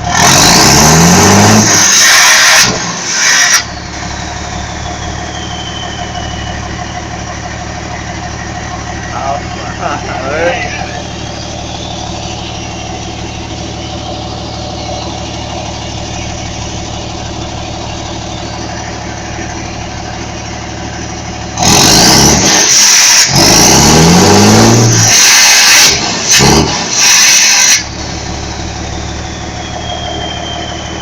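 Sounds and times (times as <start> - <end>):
diesel truck engine revving: 0.0 - 31.0.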